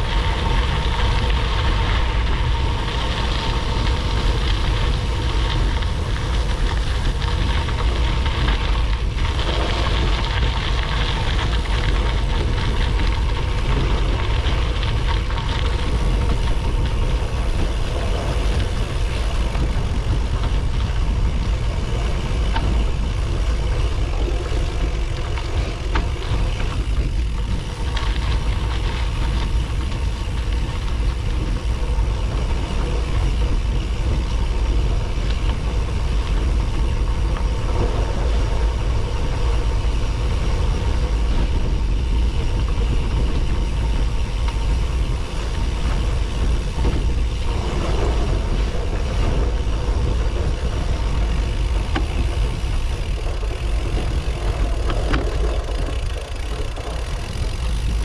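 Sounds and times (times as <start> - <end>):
bike tyres rolling on dirt: 0.0 - 58.0
small clicks and rattles: 0.0 - 58.0
wind rumble on microphone: 0.0 - 58.0.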